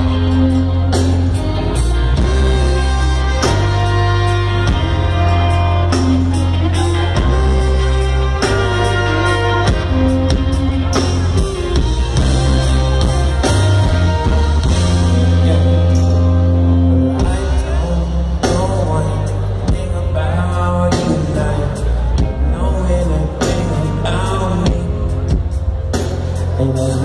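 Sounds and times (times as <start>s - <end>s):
guitar chords: 0.0s - 27.0s
heavy bass line: 0.0s - 27.0s
reggae band playing live: 0.0s - 27.0s.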